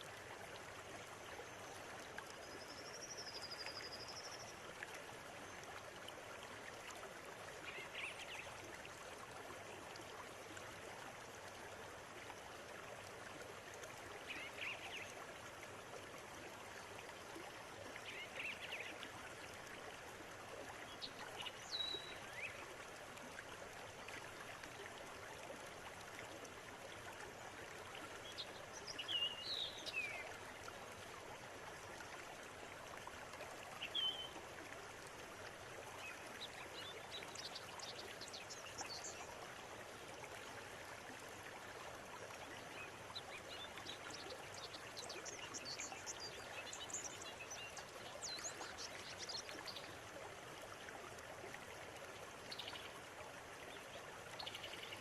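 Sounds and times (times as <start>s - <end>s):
river water running: 0.0s - 55.0s.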